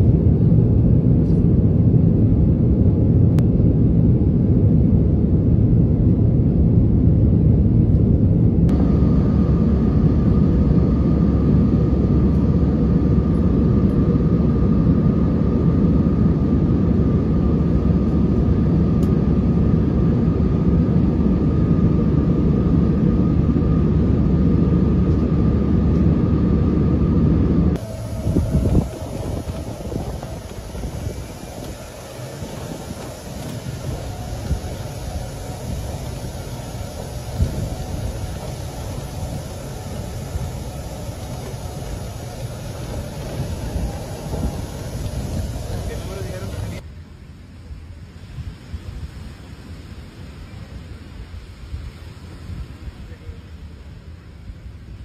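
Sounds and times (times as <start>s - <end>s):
steady whine: 0.0s - 47.5s
jet engines and rushing air in cabin: 0.0s - 55.0s.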